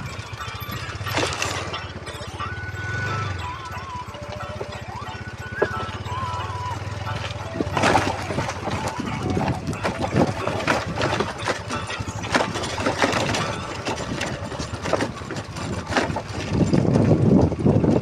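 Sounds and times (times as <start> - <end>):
knocks and rattles of bike: 0.0 - 18.0
motorcycle engine running: 0.0 - 18.0.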